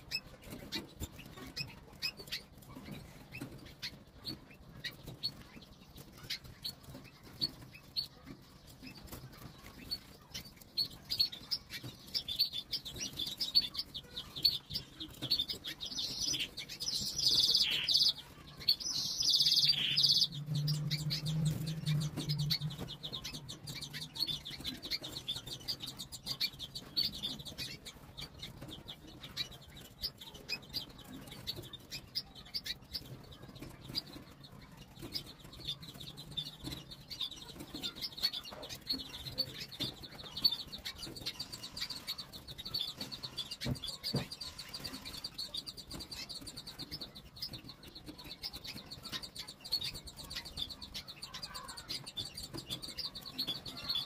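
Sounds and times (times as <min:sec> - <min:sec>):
canaries chirping: 0:00.0 - 0:54.0.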